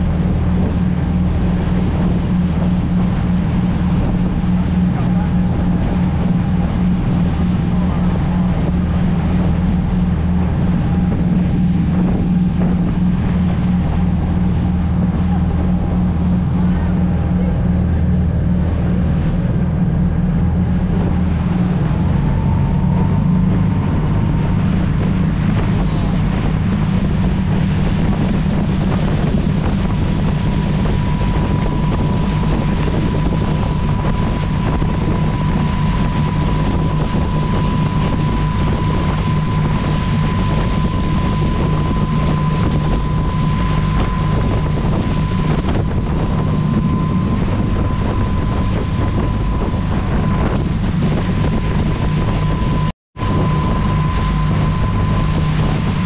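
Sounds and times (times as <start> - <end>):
boat engine drone: 0.0 - 56.0
rush of boat wake: 0.0 - 56.0
thin steady whine: 0.0 - 56.0
wind buffeting microphone: 0.0 - 56.0.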